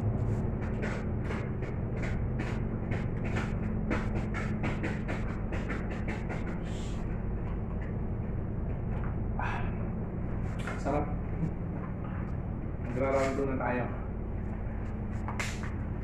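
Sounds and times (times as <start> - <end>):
low hum: 0.0 - 5.5, 6.1 - 16.0.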